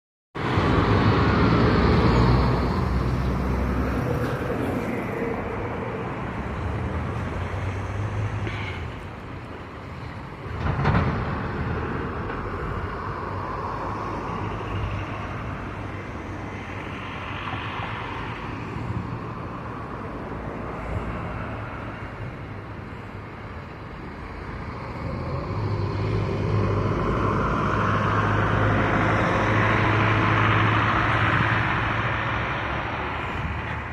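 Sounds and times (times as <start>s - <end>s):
road traffic passing: 0.4s - 33.9s.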